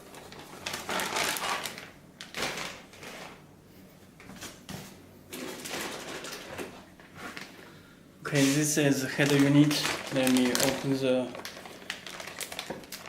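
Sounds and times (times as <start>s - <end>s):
packaging rustling: 0.0s - 3.4s, 5.3s - 13.0s.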